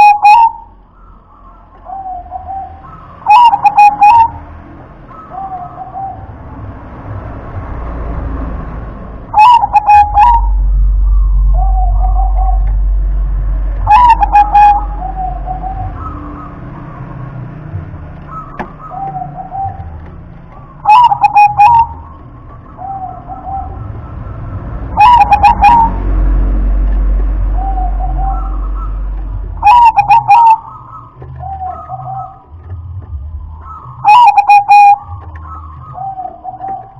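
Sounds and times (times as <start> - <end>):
dove cooing: 0.0 - 4.5, 5.1 - 6.6, 9.3 - 12.9, 13.8 - 17.4, 18.1 - 36.9
low steady rumble: 0.0 - 30.0, 30.6 - 34.1.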